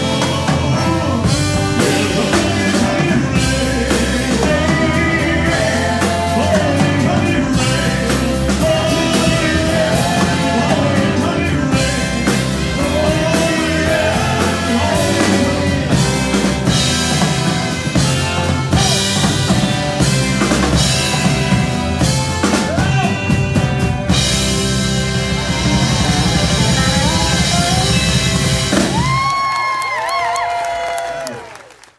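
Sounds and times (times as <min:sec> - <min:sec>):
live rock band playing: 0:00.0 - 0:31.3.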